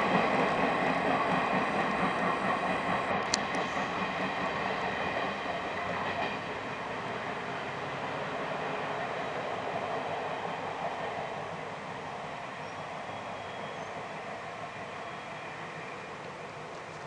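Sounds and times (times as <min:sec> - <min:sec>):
electric train pulling away: 0:00.0 - 0:17.0.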